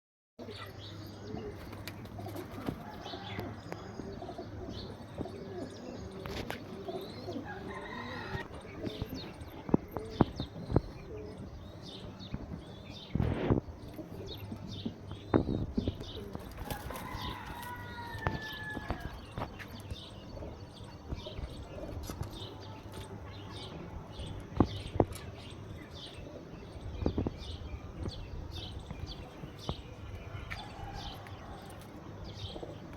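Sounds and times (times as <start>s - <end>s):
pigeons cooing: 0.4s - 32.9s.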